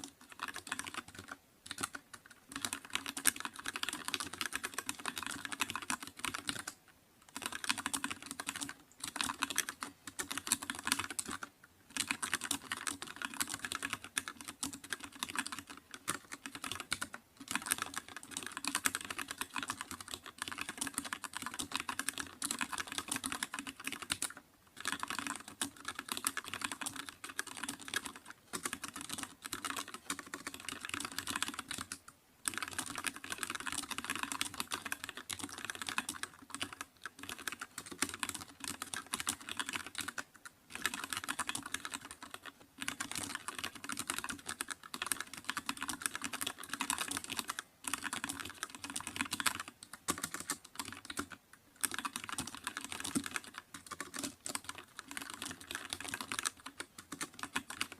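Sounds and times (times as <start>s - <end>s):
fast keyboard typing: 0.0s - 57.9s.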